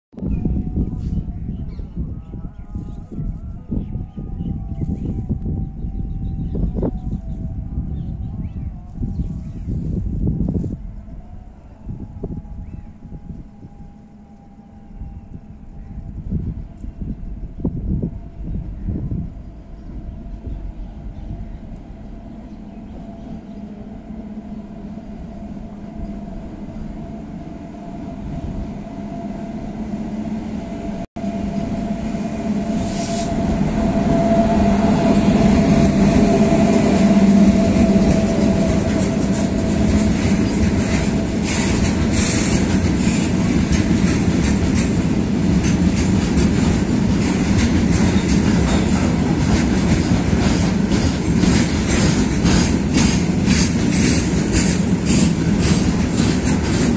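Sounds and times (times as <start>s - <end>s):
freight train rumbling: 0.1s - 56.9s.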